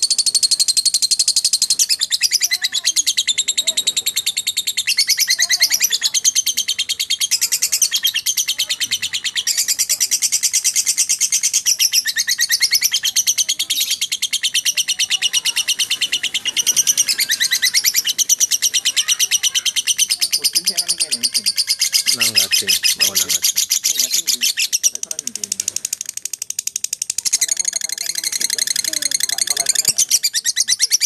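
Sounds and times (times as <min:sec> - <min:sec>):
lovebird chattering: 0:00.0 - 0:31.0.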